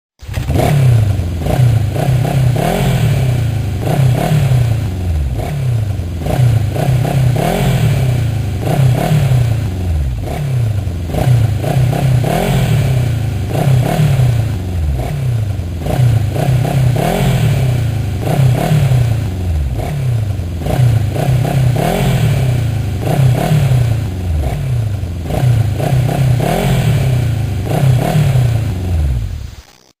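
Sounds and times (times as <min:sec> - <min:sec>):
motorcycle engine revving: 0:00.2 - 0:29.6.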